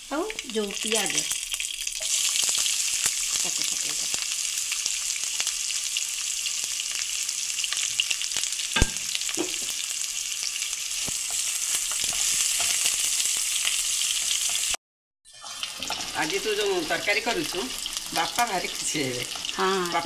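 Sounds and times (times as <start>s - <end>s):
onion sizzling in hot oil: 0.0s - 20.0s.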